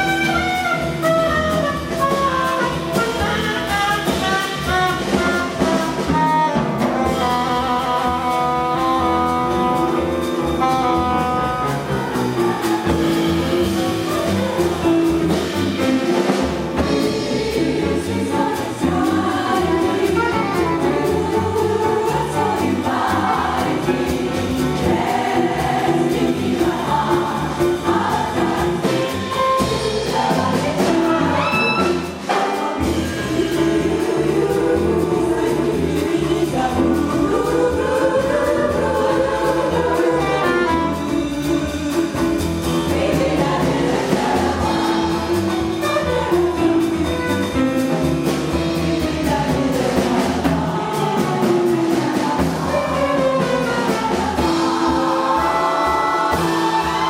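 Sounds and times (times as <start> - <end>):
saxophone: 0.0 - 17.5, 19.0 - 42.5, 44.3 - 57.0
bass: 0.0 - 57.0
drums: 0.0 - 57.0
jazz chorus singing in harmony: 0.0 - 57.0
piano: 0.0 - 57.0.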